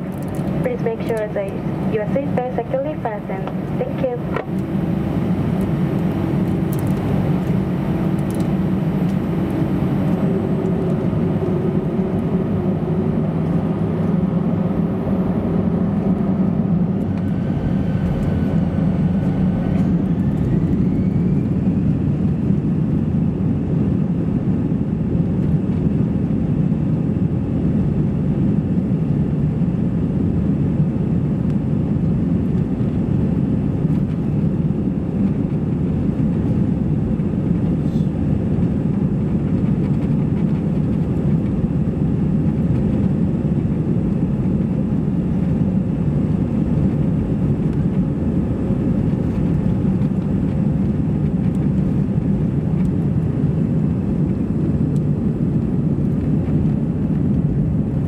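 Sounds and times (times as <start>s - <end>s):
jet engines at takeoff thrust: 0.0s - 58.0s
undercarriage rumbling on runway: 3.0s - 23.9s, 32.0s - 58.0s.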